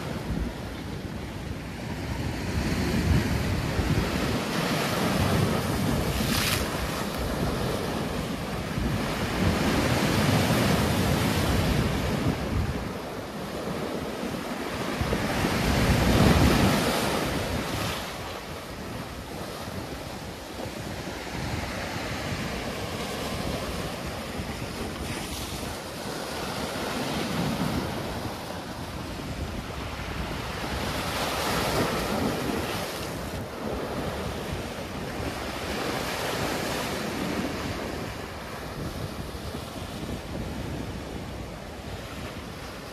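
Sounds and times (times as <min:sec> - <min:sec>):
sea waves breaking on beach: 0:00.0 - 0:42.9
wind buffeting microphone: 0:00.0 - 0:42.9.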